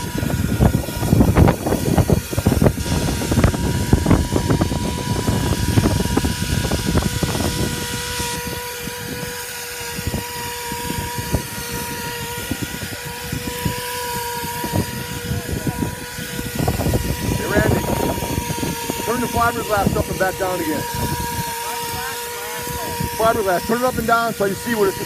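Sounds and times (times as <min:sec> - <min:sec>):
hissing spray: 0:00.0 - 0:25.0
spray rig mechanical whine: 0:00.0 - 0:25.0.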